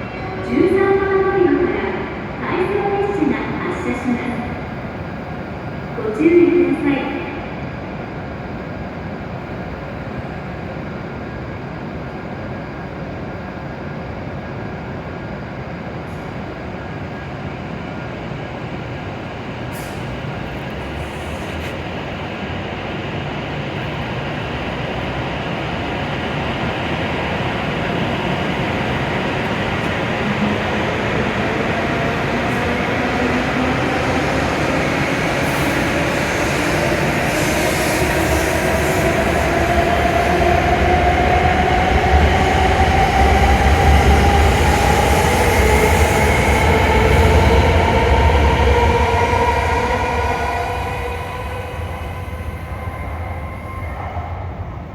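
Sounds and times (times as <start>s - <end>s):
train rumble and hum: 0.0s - 54.9s.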